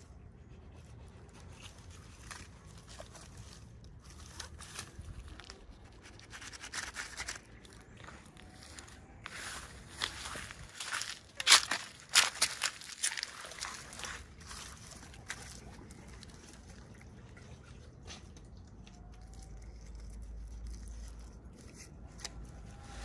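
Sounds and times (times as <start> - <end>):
faint low hum: 0.0 - 23.0
packaging clicks and crinkles: 1.6 - 17.1, 18.8 - 23.0.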